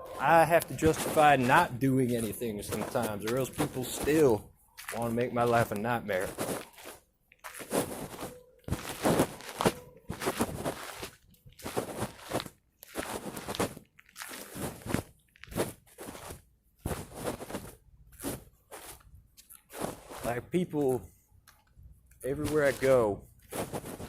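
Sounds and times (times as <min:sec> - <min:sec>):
footsteps crunching on loose ground: 0:00.2 - 0:21.0, 0:22.2 - 0:24.0.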